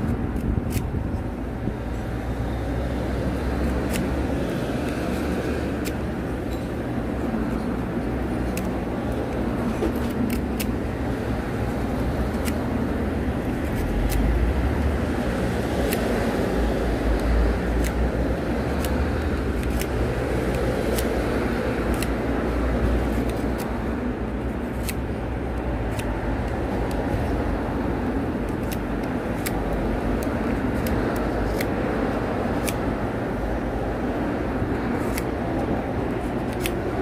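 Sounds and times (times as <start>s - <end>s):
knife blade shaving wood: 3.4s - 6.4s, 7.1s - 33.2s, 34.6s - 37.0s.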